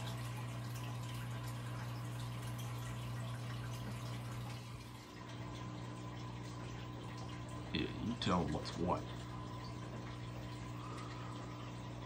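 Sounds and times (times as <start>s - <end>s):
filter motor hum: 0.0s - 12.0s
water trickling and dripping: 0.0s - 12.0s.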